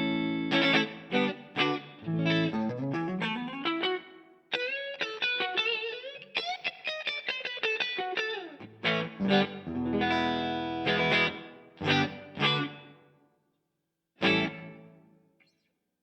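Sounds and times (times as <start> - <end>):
electric guitar with reverb: 0.0 - 13.3, 14.2 - 15.7.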